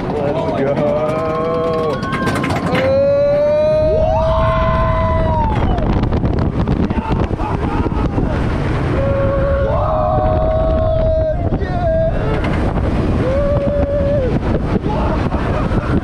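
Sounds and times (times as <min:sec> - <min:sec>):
roller coaster rumbling on rails: 0:00.0 - 0:16.0
wind rush on microphone: 0:00.0 - 0:16.0
riders screaming: 0:01.2 - 0:05.9, 0:06.8 - 0:16.0.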